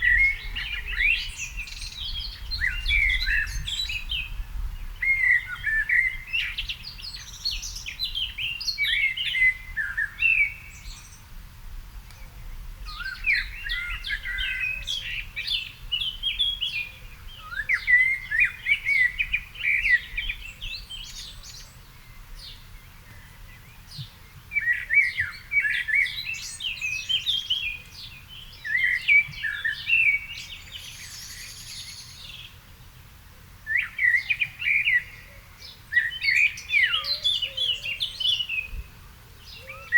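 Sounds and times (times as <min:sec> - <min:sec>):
faint low wind rumble: 0:00.0 - 0:33.7, 0:37.1 - 0:39.9
songbirds singing: 0:00.0 - 0:39.9.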